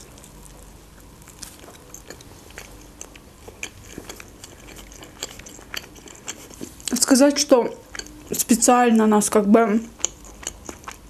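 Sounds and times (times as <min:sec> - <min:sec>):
person chewing bread: 0:00.0 - 0:07.0, 0:07.6 - 0:08.4, 0:09.9 - 0:11.0.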